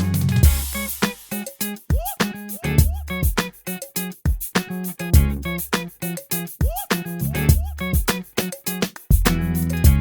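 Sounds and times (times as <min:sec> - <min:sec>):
funky guitar riff with bass and beat: 0:00.0 - 0:10.0.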